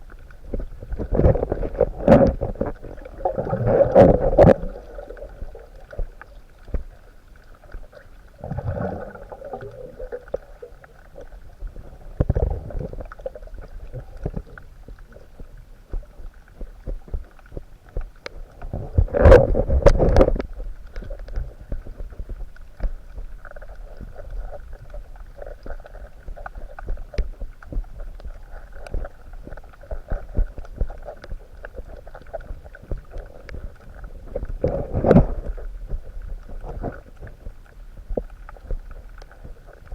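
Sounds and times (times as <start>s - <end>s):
faint steady hiss: 0.0s - 39.9s
muffled water sloshing underwater: 0.0s - 39.9s.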